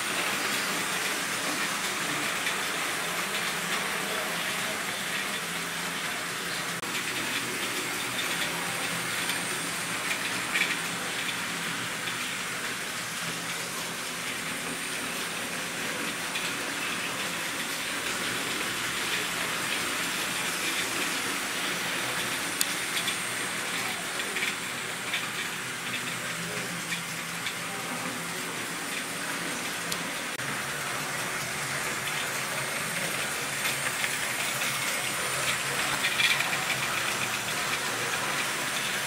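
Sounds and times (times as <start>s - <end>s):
model train wheels and motors whirring: 0.0s - 39.0s.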